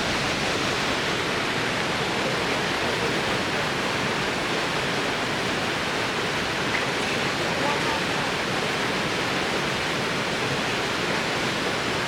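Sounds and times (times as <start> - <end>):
river rushing through rapids: 0.0 - 12.0.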